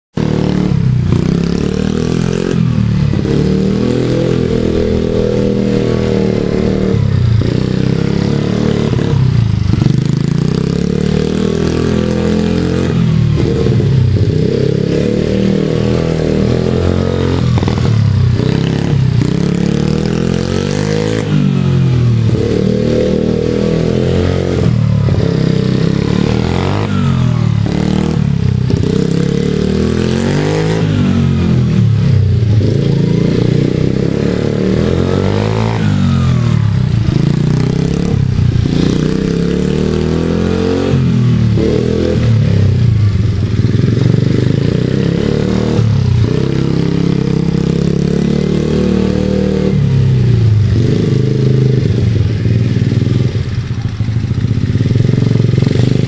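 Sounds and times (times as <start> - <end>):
motorbike engine revving: 0.1 - 56.0.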